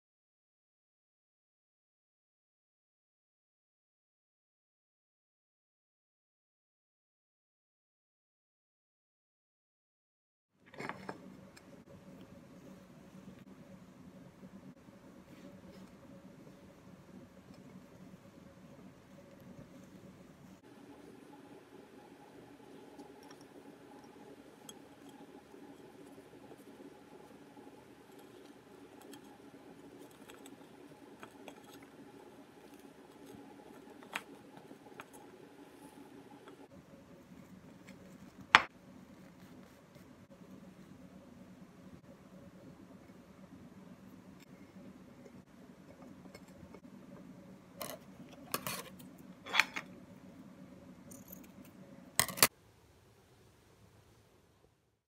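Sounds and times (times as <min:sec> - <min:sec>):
low room hum: 0:10.6 - 0:55.0.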